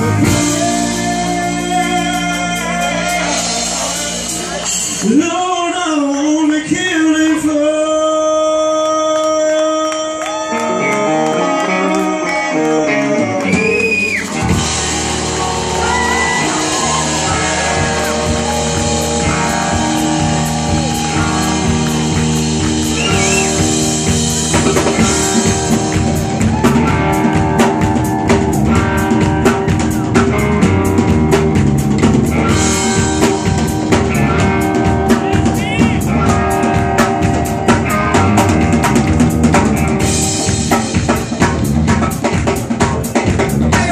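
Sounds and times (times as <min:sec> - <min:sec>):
drum kit: 0:00.0 - 0:05.8, 0:13.2 - 0:43.9.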